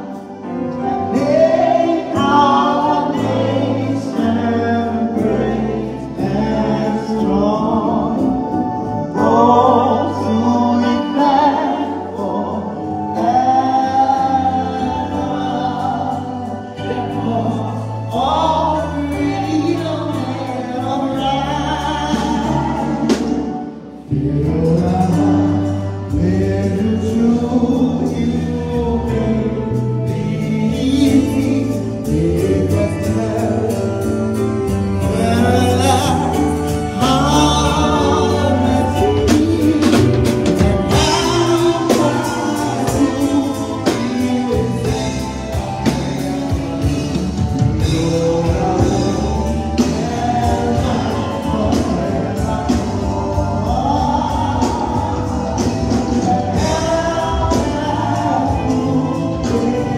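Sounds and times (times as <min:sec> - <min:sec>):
congregation singing gospel: 0:00.0 - 0:59.9
electronic keyboard: 0:00.0 - 0:59.9
man singing lead: 0:00.0 - 0:59.9.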